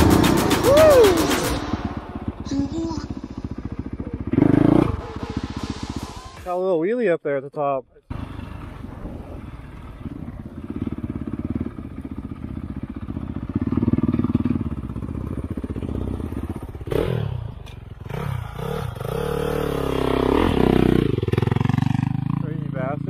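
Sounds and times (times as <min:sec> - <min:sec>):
dirt bike engine revving: 0:00.0 - 0:06.0, 0:08.1 - 0:22.7.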